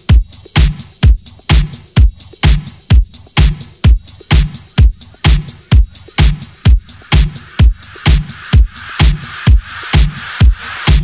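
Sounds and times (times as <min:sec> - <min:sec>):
electronic dance music: 0:00.0 - 0:11.0
hi-hat hiss: 0:00.0 - 0:11.0
steady kick drum: 0:00.0 - 0:11.0.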